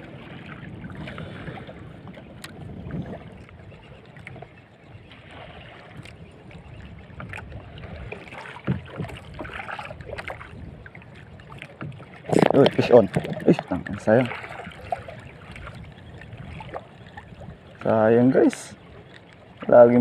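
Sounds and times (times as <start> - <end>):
sea water sloshing against hull: 0.0 - 20.0.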